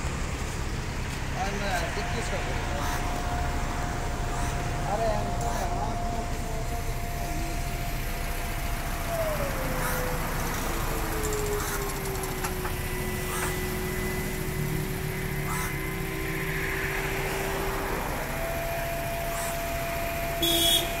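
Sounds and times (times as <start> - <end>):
truck engine running with whine: 0.0 - 21.0.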